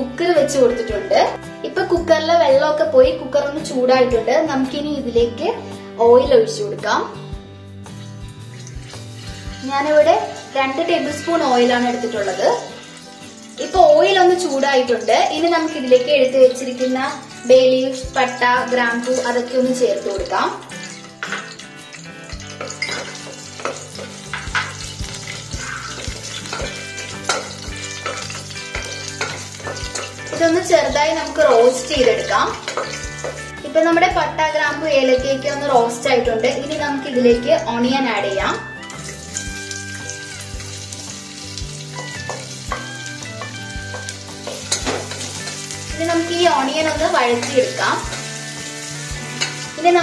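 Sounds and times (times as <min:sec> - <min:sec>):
spices sizzling in hot oil: 0:00.0 - 0:50.0.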